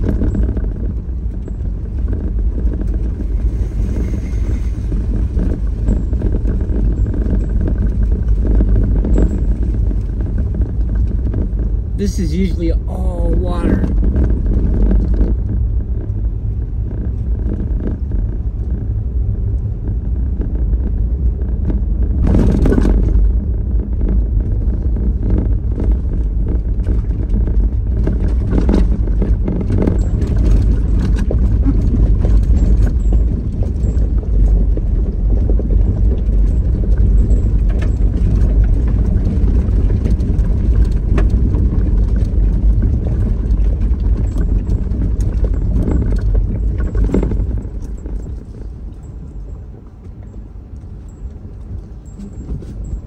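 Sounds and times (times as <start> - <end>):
rattle: 0.0 - 12.0, 13.8 - 53.0
car road and engine rumble: 0.0 - 53.0.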